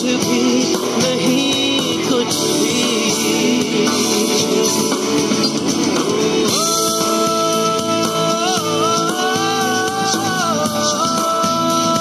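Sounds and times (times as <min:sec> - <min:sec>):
song with long held note: 0:00.0 - 0:12.0.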